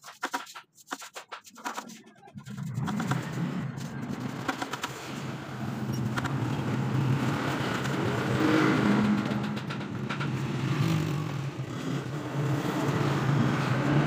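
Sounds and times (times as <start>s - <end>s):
engine running: 2.4s - 14.0s.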